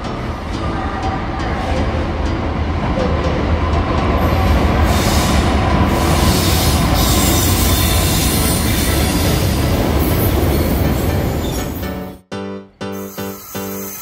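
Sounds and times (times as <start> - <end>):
diesel locomotive engine rumble: 0.0 - 12.2
train wheels on rails: 0.3 - 12.1.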